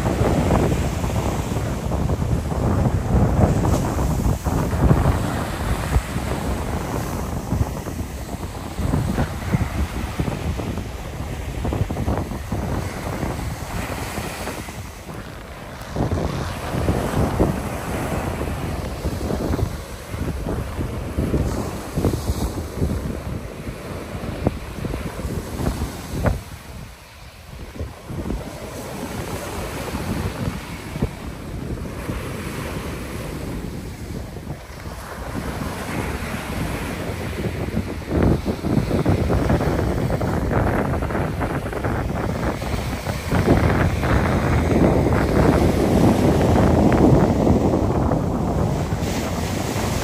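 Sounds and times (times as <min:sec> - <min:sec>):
small waves breaking on sand: 0:00.0 - 0:50.0
wind buffeting microphone: 0:00.0 - 0:50.0.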